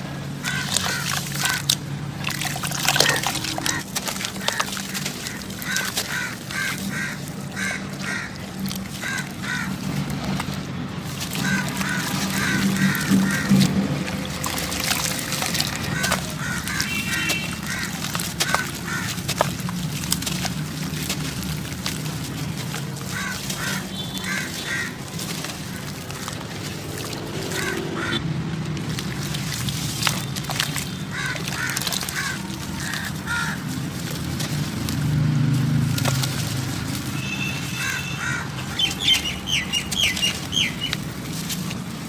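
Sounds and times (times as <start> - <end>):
dry clumps crumbling: 0.0 - 42.0
bird calling: 0.4 - 28.2, 29.2 - 35.0, 36.0 - 42.0.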